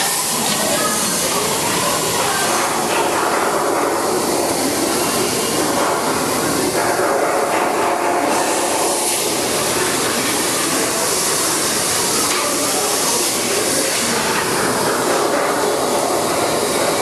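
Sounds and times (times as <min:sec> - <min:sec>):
loud machinery rushing din: 0:00.0 - 0:17.0.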